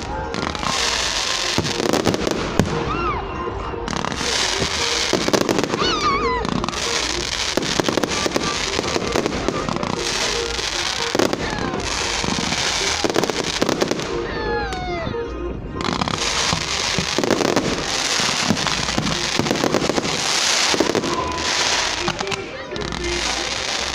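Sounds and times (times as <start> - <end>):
fireworks crackling and banging: 0.0 - 23.9.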